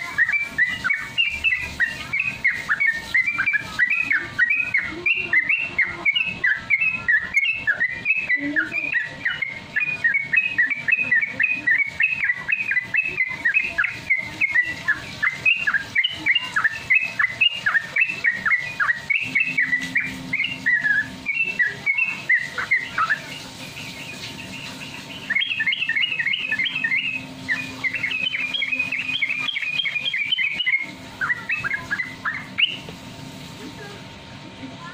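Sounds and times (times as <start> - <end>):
bird chirping rapidly: 0.0 - 33.5
faint steady hum: 0.0 - 34.9.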